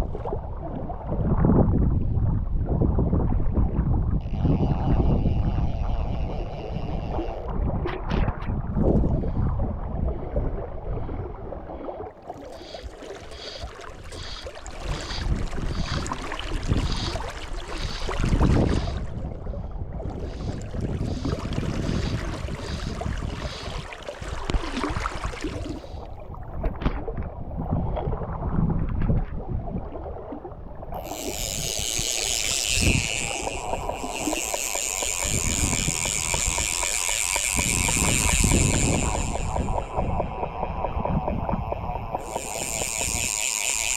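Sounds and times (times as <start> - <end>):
wind gusting on microphone: 0.0 - 11.6, 12.7 - 30.0, 30.8 - 43.9.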